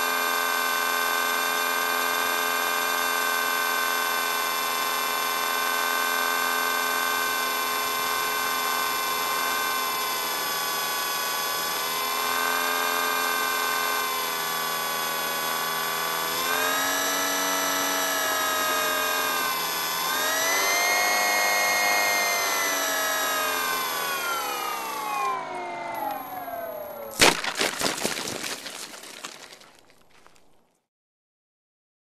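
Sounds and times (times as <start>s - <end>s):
model airplane motor whine: 0.0s - 27.2s.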